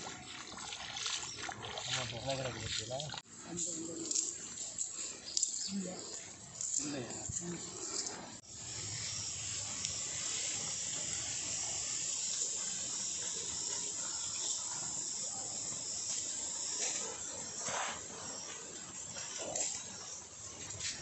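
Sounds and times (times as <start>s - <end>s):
high-pitched outdoor hiss: 2.0s - 21.0s.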